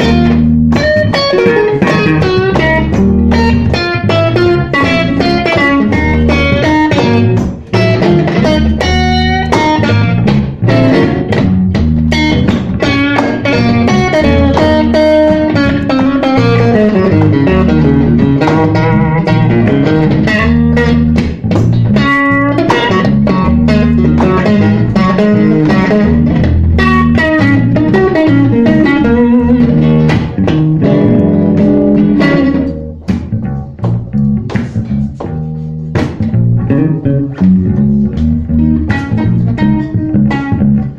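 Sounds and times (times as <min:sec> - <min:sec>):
bass line: 0:00.0 - 0:40.9
electric guitar lead line: 0:00.0 - 0:40.9.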